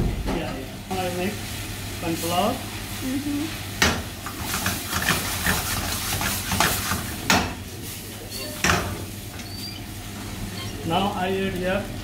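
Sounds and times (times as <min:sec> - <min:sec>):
meat sizzling: 0:00.6 - 0:12.0.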